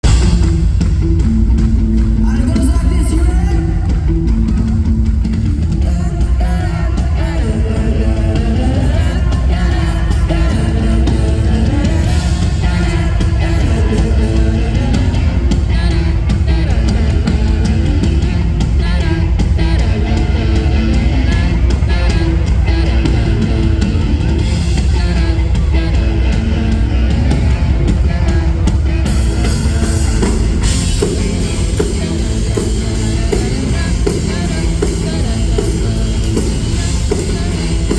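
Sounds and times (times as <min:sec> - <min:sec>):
live pop-rock band: 0:00.0 - 0:37.9
person singing: 0:01.9 - 0:37.9.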